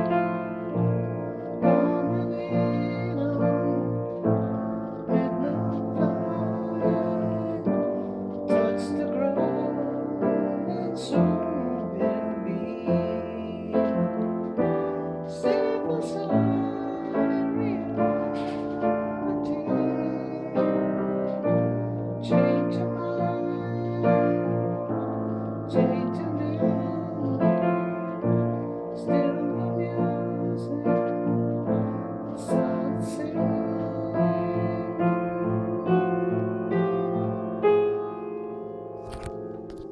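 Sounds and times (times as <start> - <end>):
slow piano piece: 0.0 - 39.9.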